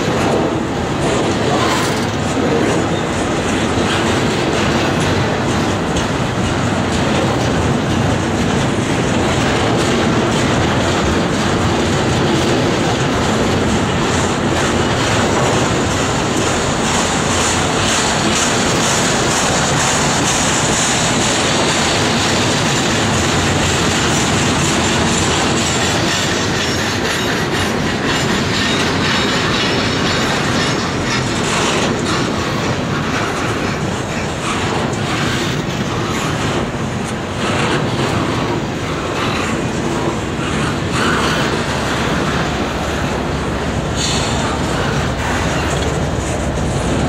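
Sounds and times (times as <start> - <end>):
steel train wheels rolling on rail: 0.0 - 47.0
wheels clicking over rail joints: 0.0 - 47.0.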